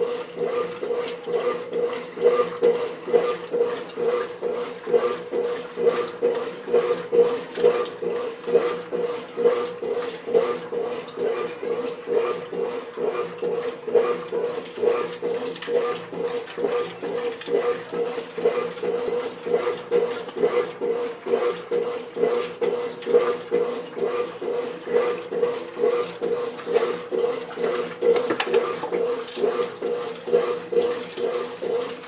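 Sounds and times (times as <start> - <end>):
washing machine agitating: 0.0 - 32.0.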